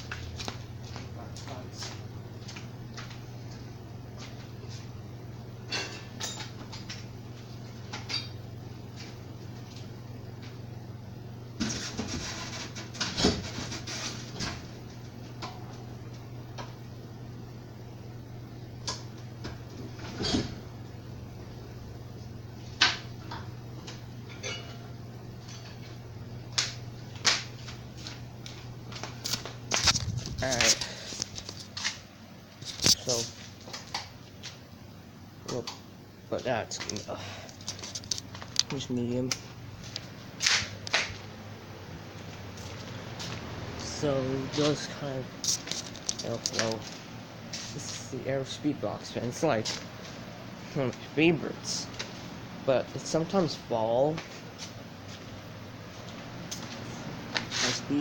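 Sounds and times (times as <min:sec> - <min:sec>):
box fan motor hum: 0:00.0 - 0:58.0.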